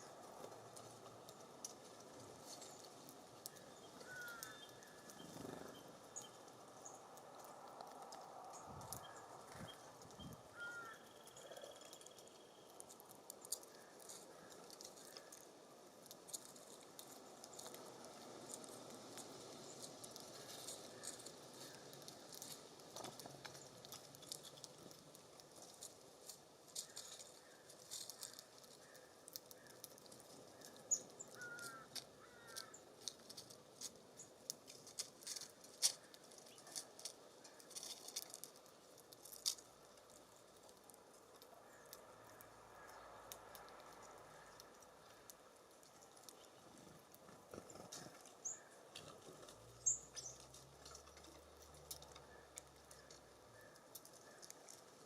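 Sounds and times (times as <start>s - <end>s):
birds pecking and scratching: 0.0s - 55.0s
soft breeze: 0.0s - 55.0s.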